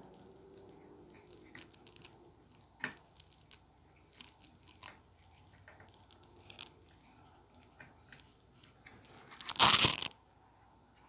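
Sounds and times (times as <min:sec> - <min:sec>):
small clicks and scrapes on plastic: 0:00.0 - 0:10.2.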